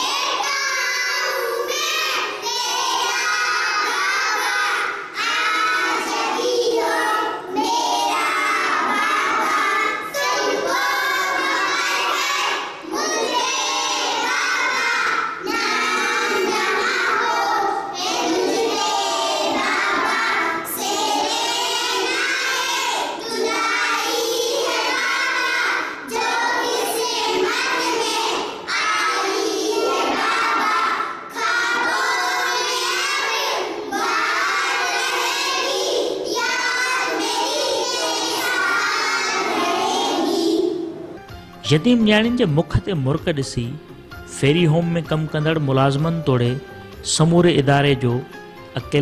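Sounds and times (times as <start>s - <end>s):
children singing: 0.0s - 41.2s.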